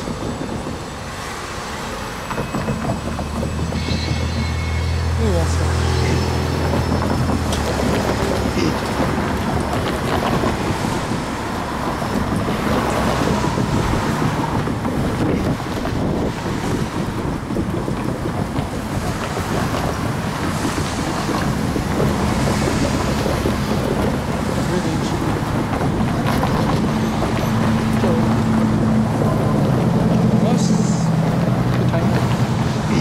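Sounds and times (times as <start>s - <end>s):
cars driving by: 0.0s - 33.0s
freight train rumbling past: 0.0s - 33.0s
wind buffeting microphone: 0.0s - 33.0s.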